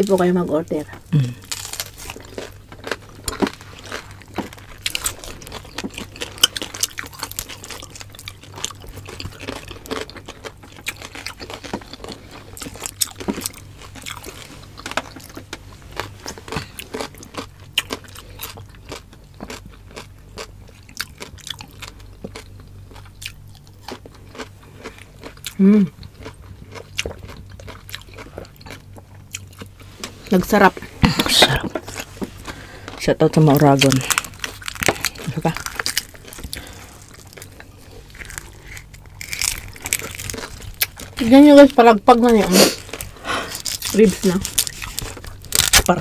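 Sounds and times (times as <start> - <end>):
chewing and crunching: 0.0 - 46.0.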